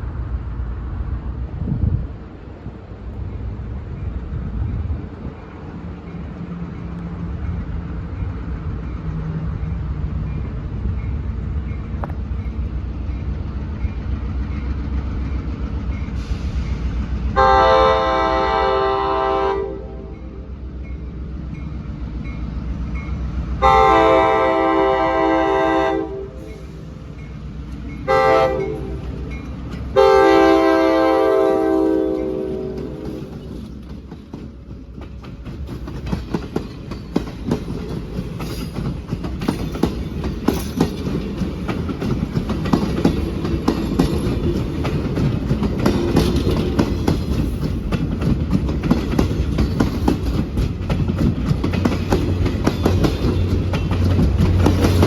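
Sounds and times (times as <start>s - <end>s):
diesel locomotive rumbling: 0.0s - 55.0s.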